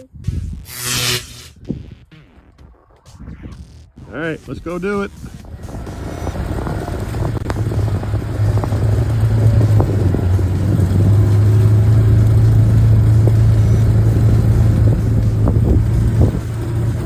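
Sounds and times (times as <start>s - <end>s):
off-road vehicle engine droning: 3.0s - 17.0s.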